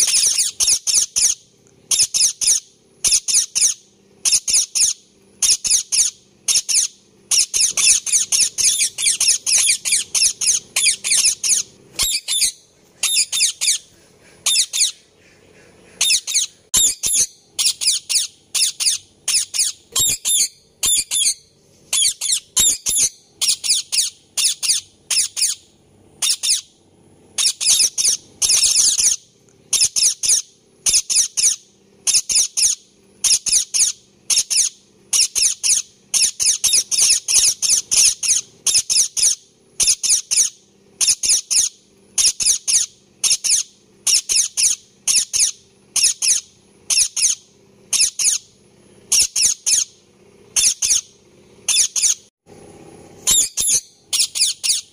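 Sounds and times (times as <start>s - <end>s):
parakeet shrill chirping: 0.0s - 15.1s, 16.0s - 26.7s, 27.4s - 48.5s, 49.1s - 51.1s, 51.7s - 52.3s, 53.2s - 54.9s.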